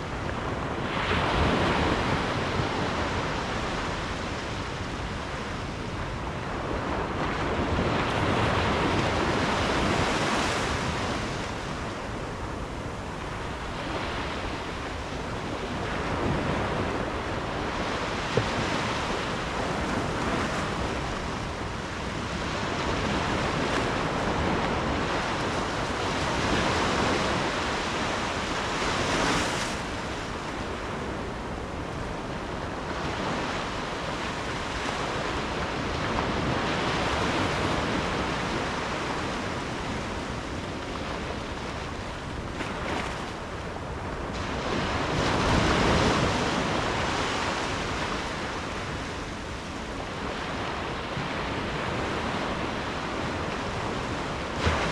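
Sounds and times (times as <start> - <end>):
ocean waves breaking: 0.0 - 54.9
wind on microphone: 0.0 - 54.9.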